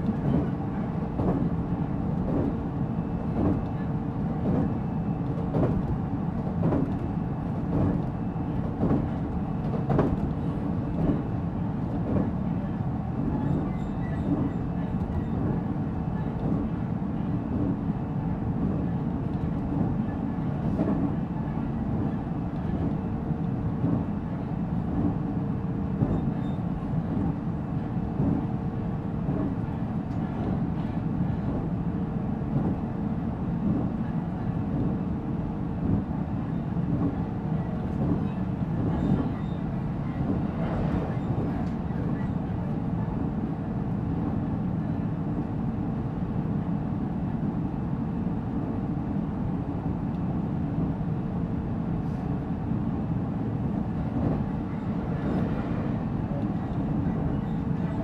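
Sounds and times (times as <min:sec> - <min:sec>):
train rolling rumble and hum: 0:00.0 - 0:58.0.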